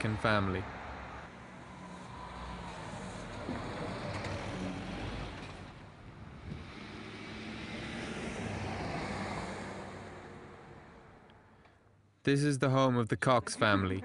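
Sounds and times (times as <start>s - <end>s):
cars driving past: 0.0s - 11.8s.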